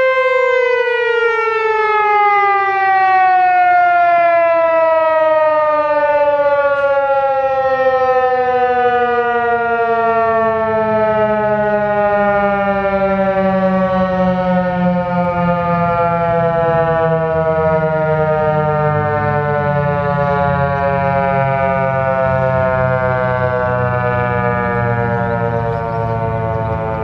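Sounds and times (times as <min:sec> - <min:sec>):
warning siren winding down: 0:00.0 - 0:27.0.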